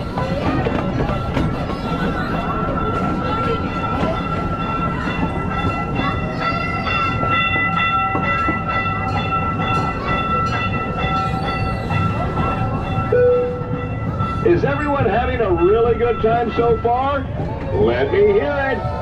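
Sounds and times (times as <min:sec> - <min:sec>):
train cars clattering: 0:00.0 - 0:19.0.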